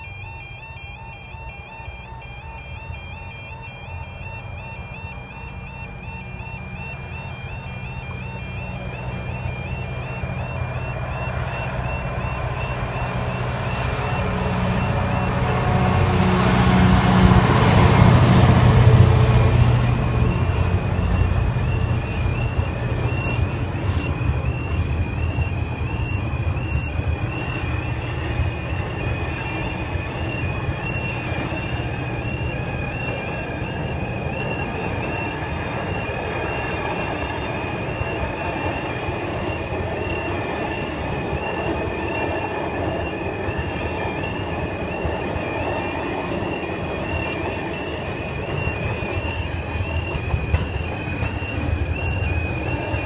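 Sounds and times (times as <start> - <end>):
train rumbling past: 0.0 - 53.0
two-tone crossing alarm: 0.0 - 53.0.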